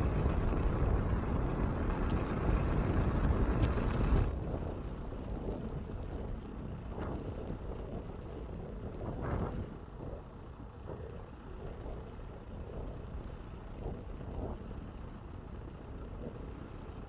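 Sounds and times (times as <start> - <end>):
small plane landing: 0.0 - 17.0
wind on microphone: 0.0 - 17.0.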